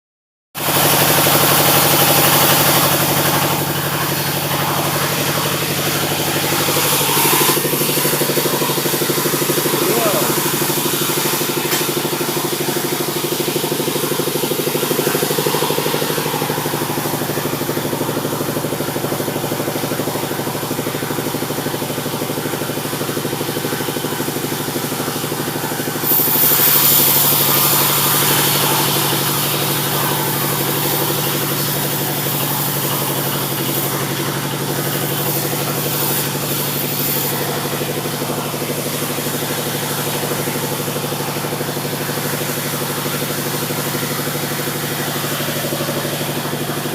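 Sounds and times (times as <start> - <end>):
saw blade rasping through log: 0.6 - 21.3, 23.4 - 46.9
sawmill engine running: 0.6 - 46.9.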